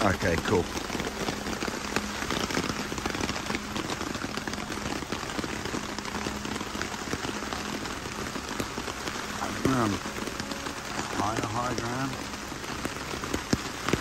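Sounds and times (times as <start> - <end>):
heavy rain on a tarp: 0.0 - 14.0.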